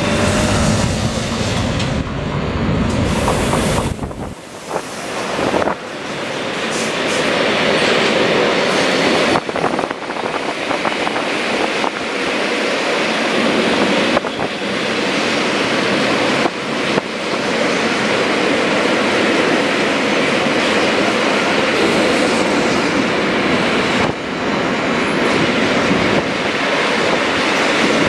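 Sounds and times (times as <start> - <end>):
freight train rushing past: 0.0 - 28.0.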